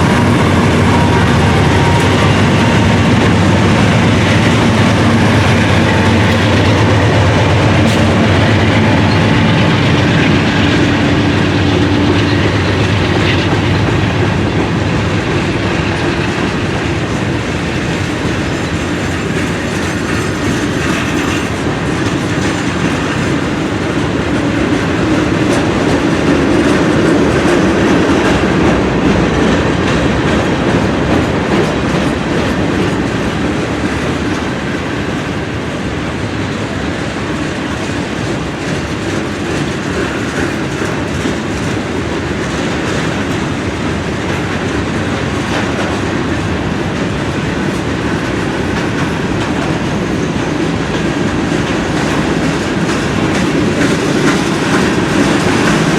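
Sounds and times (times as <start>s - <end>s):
train wheels clattering on rail joints: 0.0s - 55.9s.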